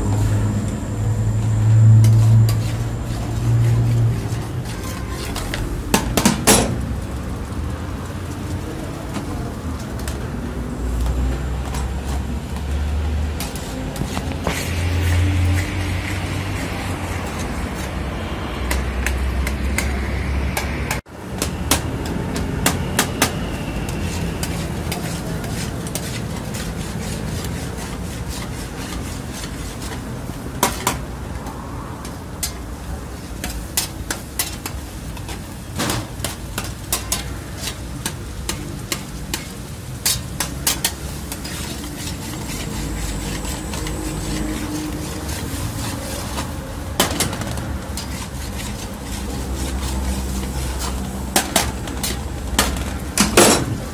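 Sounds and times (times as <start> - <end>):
gravy sizzling and bubbling: 0.0 - 53.9
metal utensils scraping a pan: 1.3 - 6.8, 11.1 - 20.0, 20.9 - 53.9.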